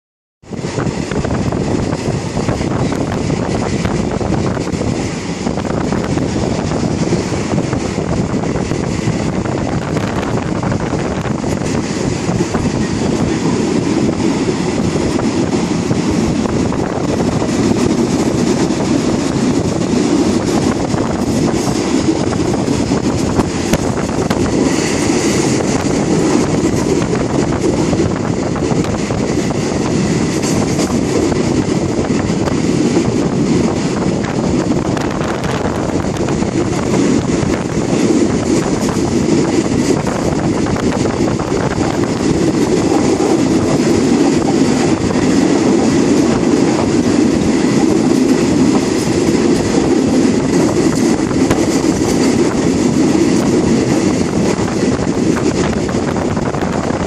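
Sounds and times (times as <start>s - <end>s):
train wheels rumbling on rails: 0.4s - 57.0s.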